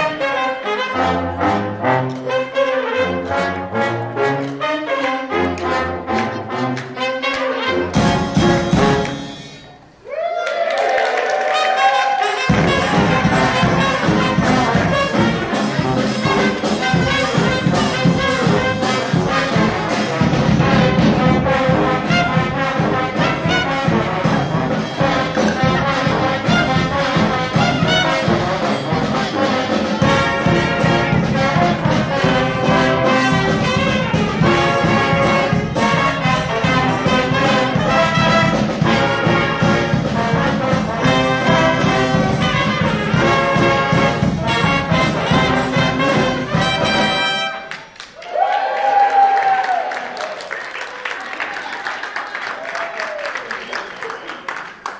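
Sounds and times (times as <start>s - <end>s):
brass band playing: 0.0s - 10.0s, 11.3s - 48.1s.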